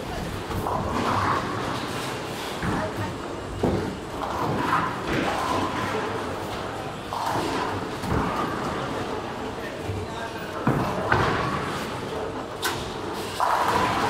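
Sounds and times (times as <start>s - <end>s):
bowling balls rolling: 0.2s - 14.0s.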